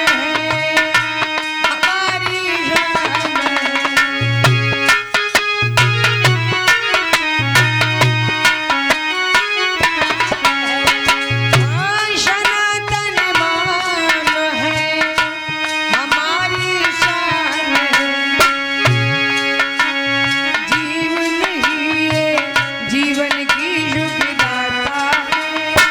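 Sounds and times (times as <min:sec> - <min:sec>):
steady held melody line: 0:00.0 - 0:25.9
tabla playing a quick rhythm: 0:00.0 - 0:25.9.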